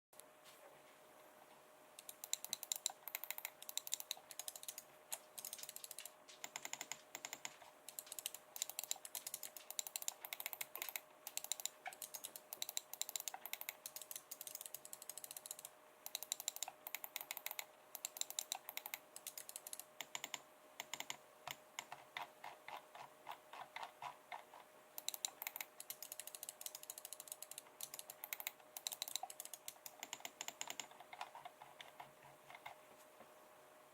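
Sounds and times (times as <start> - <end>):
mouse buttons clicking: 2.0 - 23.4, 25.0 - 32.8.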